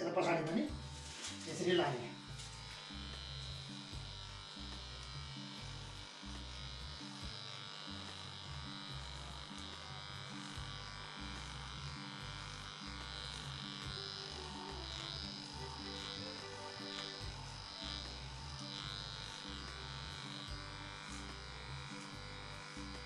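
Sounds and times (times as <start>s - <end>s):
electric hair clipper buzzing: 0.0s - 23.0s
faint music: 0.0s - 23.0s.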